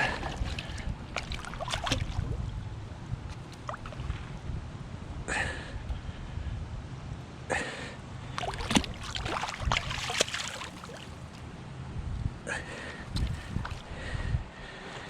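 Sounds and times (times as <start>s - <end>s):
wind rumbling on microphone: 0.0s - 7.1s, 8.3s - 10.2s, 11.8s - 15.0s.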